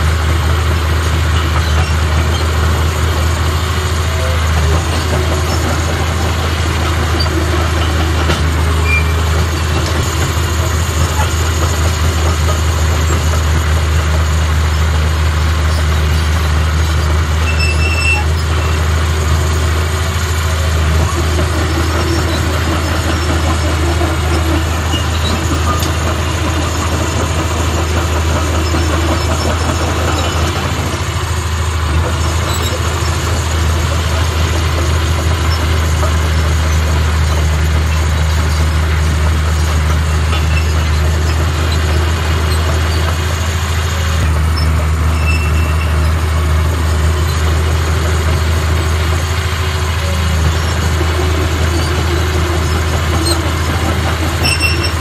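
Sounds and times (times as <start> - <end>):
bulldozer engine running under load: 0.0 - 55.0.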